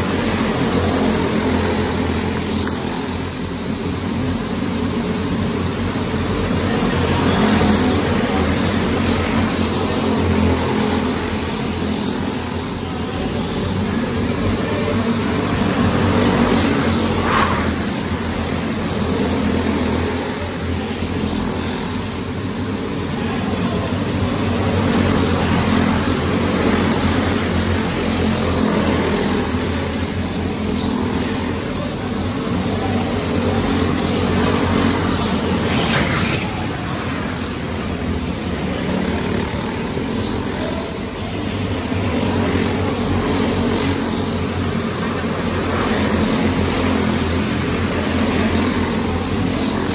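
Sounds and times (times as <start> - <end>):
go-kart engines racing: 0.0 - 49.9.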